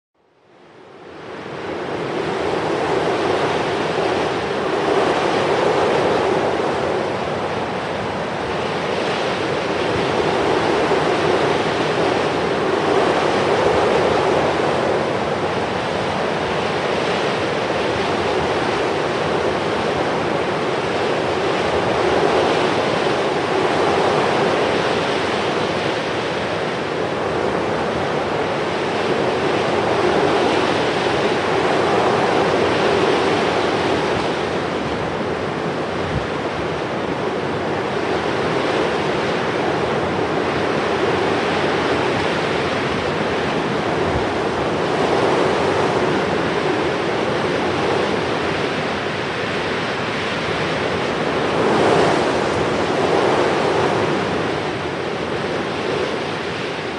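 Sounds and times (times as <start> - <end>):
steady rushing noise: 0.8 - 56.9.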